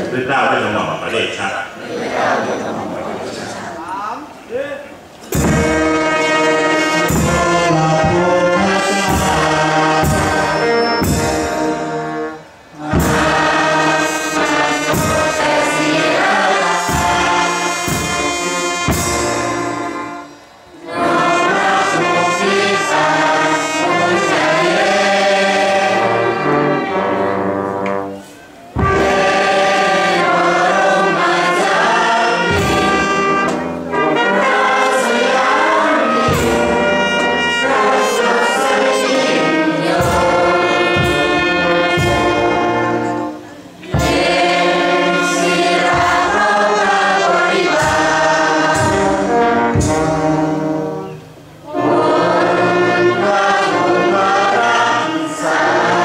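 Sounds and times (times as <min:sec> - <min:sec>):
crowd singing along: 0:00.0 - 0:03.9, 0:05.0 - 0:56.0
brass band music: 0:05.0 - 0:56.0.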